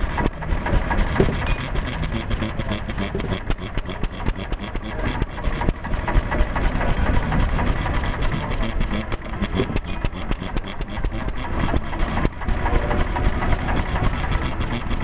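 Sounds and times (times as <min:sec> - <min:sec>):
stationary engine idling: 0:00.0 - 0:15.0.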